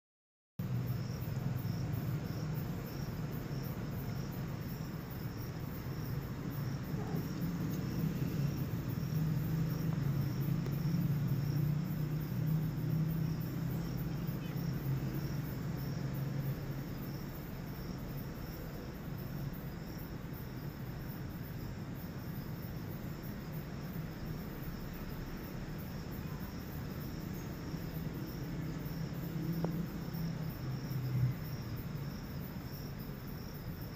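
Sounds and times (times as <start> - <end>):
crickets chirping: 0.6 - 33.9.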